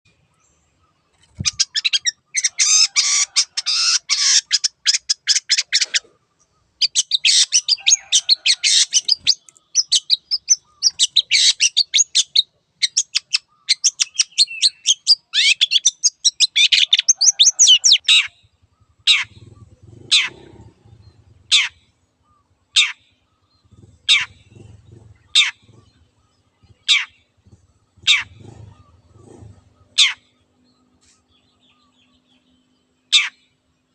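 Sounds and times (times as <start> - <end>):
bird harsh chattering song: 0.1 - 33.9.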